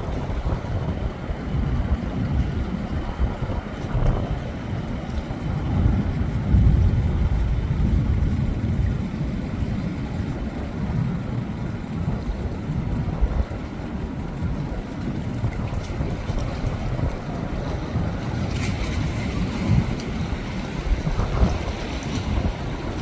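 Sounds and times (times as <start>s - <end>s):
ocean waves rumbling: 0.0s - 23.0s
wind buffeting microphone: 0.0s - 23.0s.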